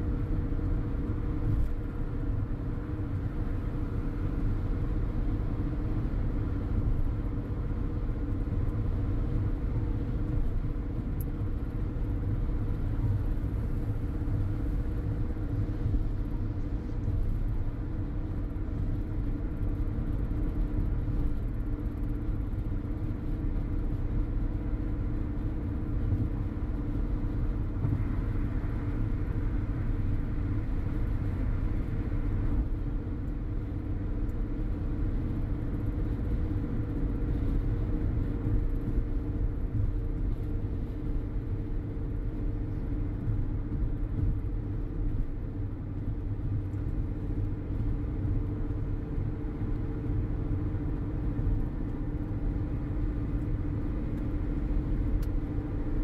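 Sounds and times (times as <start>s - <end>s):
car road noise rumble: 0.0s - 56.0s
constant hum: 0.0s - 56.0s.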